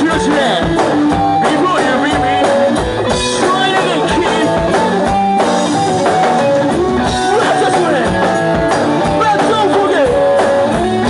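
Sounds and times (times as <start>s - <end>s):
punk band playing loud: 0.0s - 11.0s.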